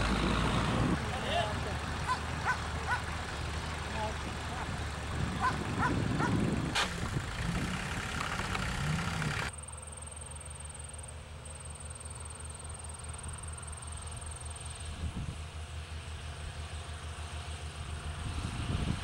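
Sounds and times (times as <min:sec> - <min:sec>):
pulsing tractor engine rumble: 0:00.0 - 0:19.0
tractor passing with trailer: 0:00.0 - 0:19.0.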